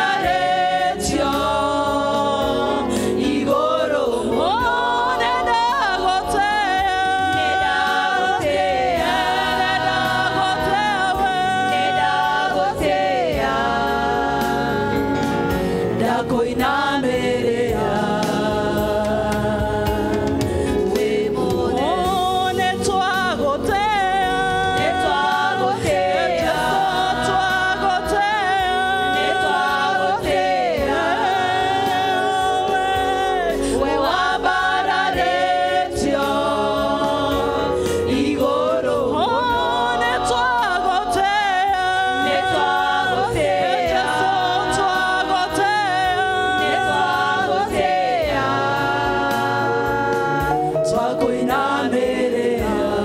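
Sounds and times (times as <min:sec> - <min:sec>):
women singing gospel through pa: 0:00.0 - 0:53.0.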